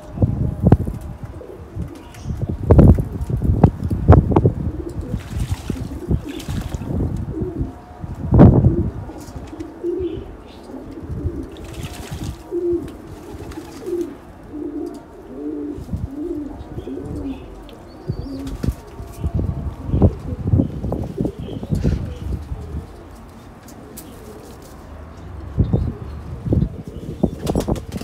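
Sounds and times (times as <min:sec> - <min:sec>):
pigeons cooing: 0:00.0 - 0:03.4, 0:04.3 - 0:28.0.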